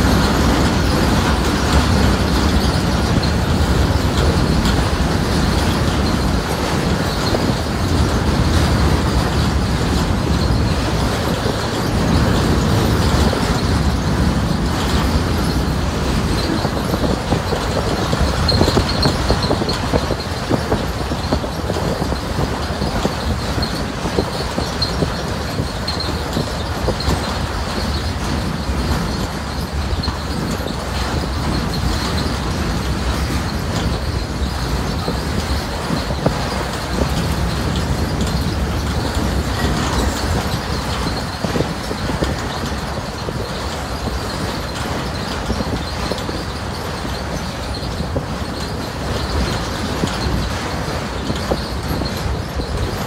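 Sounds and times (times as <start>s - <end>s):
train wheels rumbling on rails: 0.0s - 53.0s
wheel squeal: 0.0s - 53.0s
wheels clicking: 0.0s - 53.0s.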